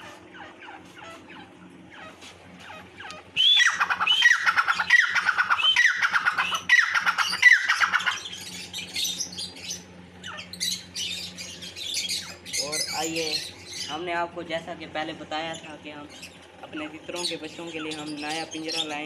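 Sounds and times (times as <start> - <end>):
bird ringing calls: 0.0 - 14.1, 15.4 - 19.0.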